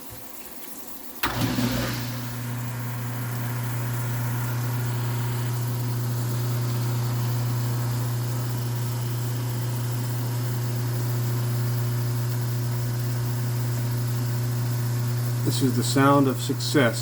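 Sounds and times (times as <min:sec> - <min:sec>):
garbage disposal motor humming: 0:01.2 - 0:17.0.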